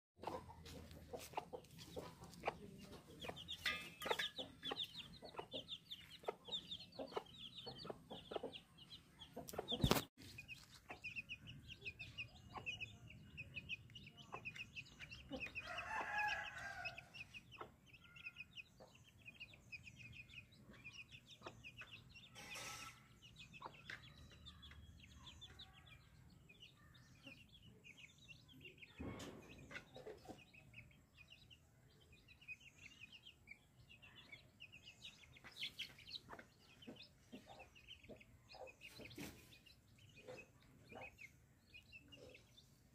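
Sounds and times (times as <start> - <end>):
chicks peeping rapidly: 0.2 - 22.4, 23.1 - 42.9.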